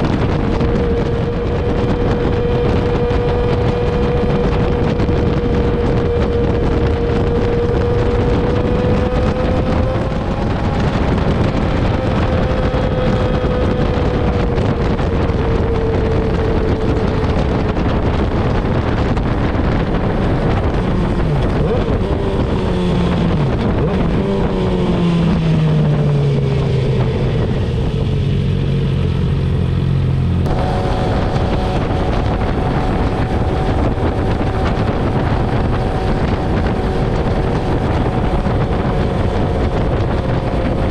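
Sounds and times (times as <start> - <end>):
motorcycle engine: 0.0 - 40.9
wind rushing over microphone: 0.0 - 40.9.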